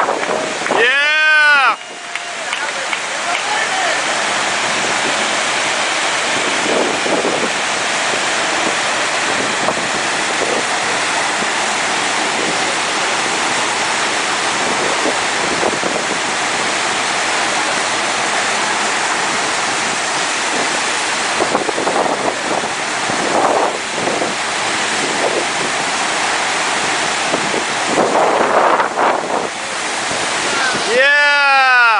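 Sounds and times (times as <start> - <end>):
wind on microphone: 0.0 - 2.1, 4.0 - 16.9, 19.2 - 31.0
rushing water: 0.0 - 31.9.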